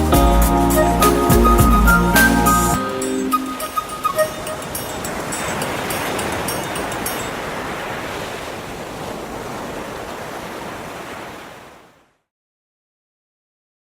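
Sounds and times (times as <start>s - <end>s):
ocean waves washing on shore: 0.0s - 12.3s.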